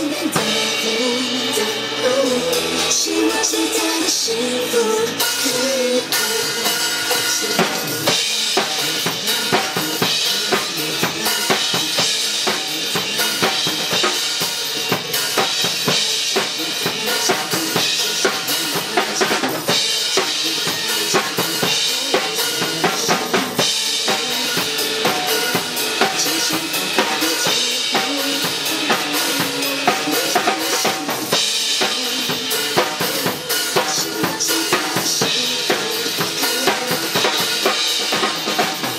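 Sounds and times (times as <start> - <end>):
drum kit playing: 0.0 - 38.9
pop backing track: 0.0 - 38.9.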